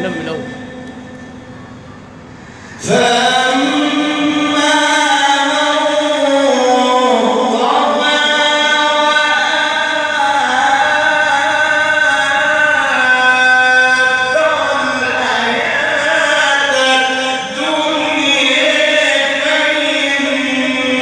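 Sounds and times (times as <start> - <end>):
man reciting melodically: 2.8 - 21.0.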